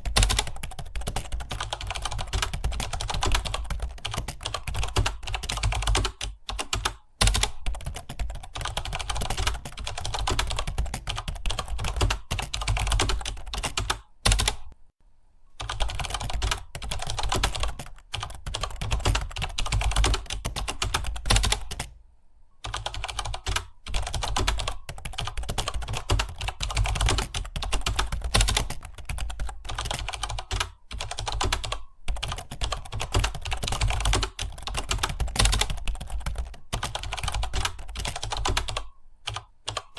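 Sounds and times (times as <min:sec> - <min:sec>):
fast keyboard typing: 0:00.0 - 0:14.8, 0:15.6 - 0:22.0, 0:22.6 - 0:39.9.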